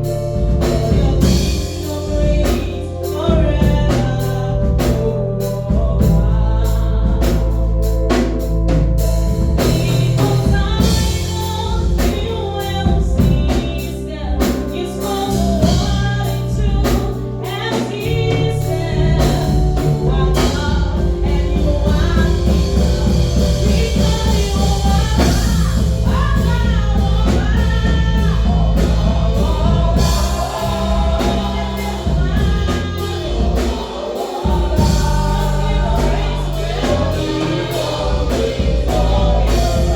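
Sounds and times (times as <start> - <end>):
bass line: 0.0 - 39.9
drums: 0.0 - 39.9
gospel choir singing: 0.0 - 39.9.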